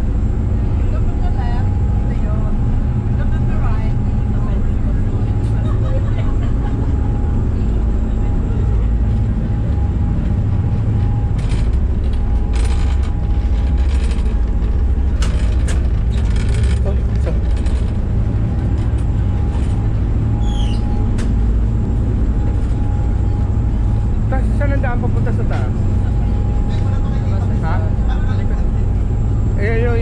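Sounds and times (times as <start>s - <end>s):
faint steady whine: 0.0s - 30.0s
ferry engines droning: 0.0s - 30.0s.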